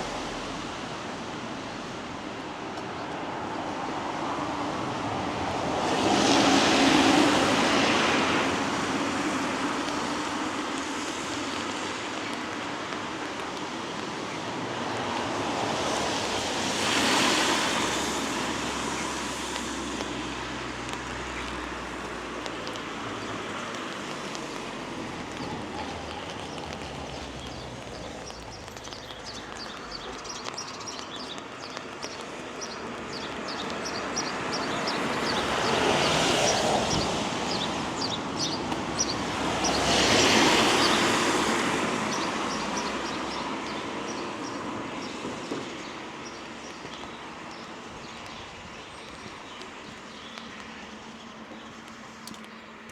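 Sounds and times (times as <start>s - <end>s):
tyres hissing on wet road: 0.0s - 52.9s.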